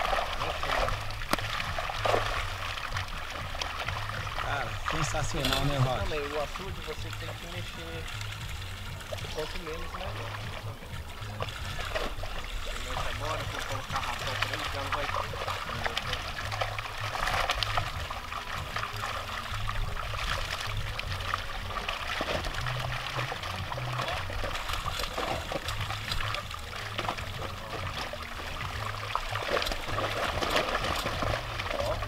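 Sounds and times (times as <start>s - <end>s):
fish splashing in water: 0.0s - 32.0s.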